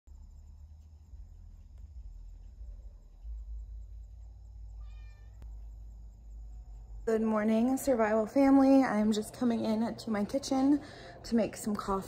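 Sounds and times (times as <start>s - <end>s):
low steady rumble: 0.1s - 12.0s.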